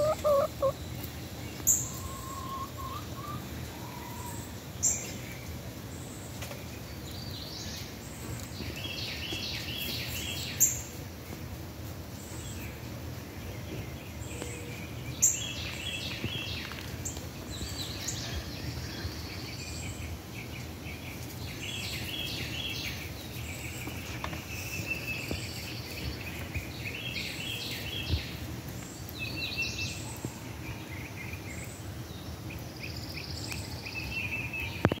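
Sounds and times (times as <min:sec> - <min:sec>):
birds chirping: 0:00.0 - 0:11.5, 0:12.2 - 0:35.0
outdoor background hiss: 0:00.0 - 0:35.0.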